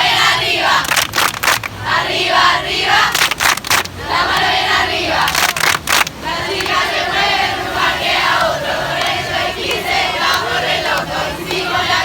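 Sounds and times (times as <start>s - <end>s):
crowd chanting a cheer: 0.0s - 1.1s, 1.8s - 3.3s, 4.0s - 12.0s.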